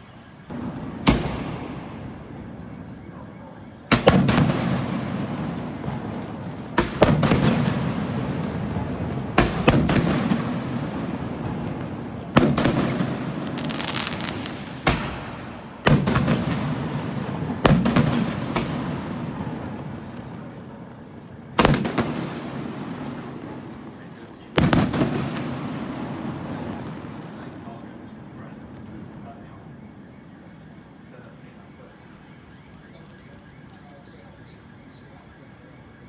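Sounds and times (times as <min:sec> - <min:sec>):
fireworks banging and crackling: 0:00.4 - 0:31.3.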